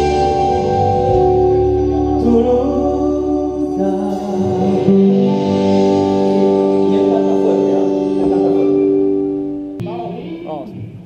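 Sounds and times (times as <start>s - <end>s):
band holding a chord: 0.0s - 11.0s.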